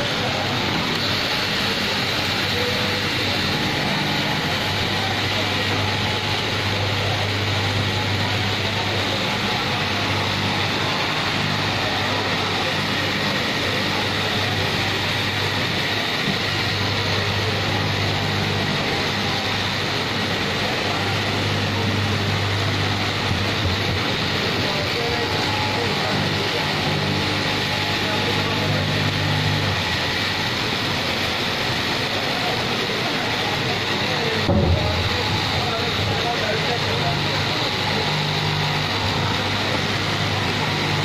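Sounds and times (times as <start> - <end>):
fabric cutting machine humming: 0.0 - 41.0
workshop noise: 0.0 - 41.0.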